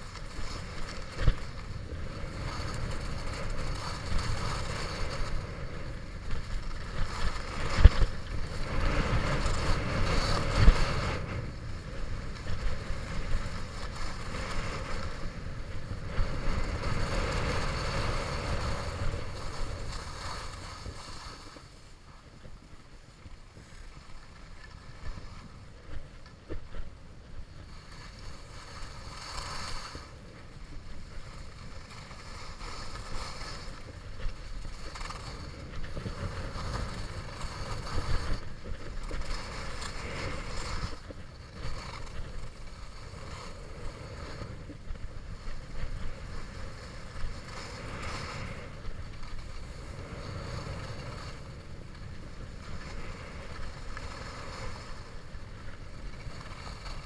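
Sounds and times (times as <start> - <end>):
skis scraping over snow: 0.0 - 57.0
wind rumble on microphone: 0.0 - 57.0.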